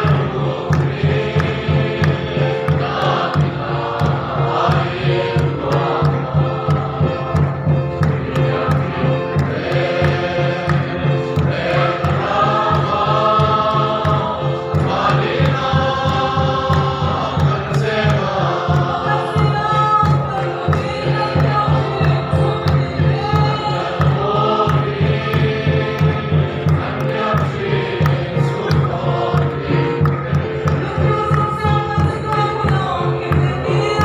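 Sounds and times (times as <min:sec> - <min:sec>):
congregation singing a hymn: 0:00.0 - 0:34.0
steady drum beat: 0:00.0 - 0:34.0.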